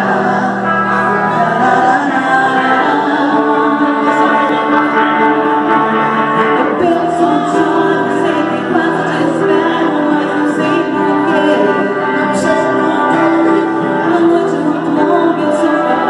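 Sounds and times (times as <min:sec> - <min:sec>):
electric guitar: 0:00.0 - 0:16.0
keyboard: 0:00.0 - 0:16.0
men's backing vocals: 0:00.0 - 0:16.0
woman singing lead: 0:00.0 - 0:16.0.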